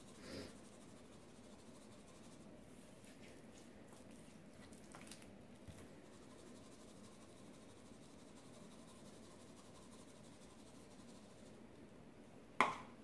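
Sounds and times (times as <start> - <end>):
hands rubbing raw meat: 0.0 - 11.2.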